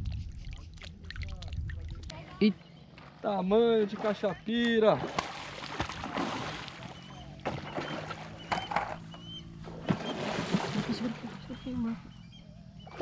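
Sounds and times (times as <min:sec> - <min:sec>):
fish splashing in water: 0:00.0 - 0:02.3, 0:03.8 - 0:12.0.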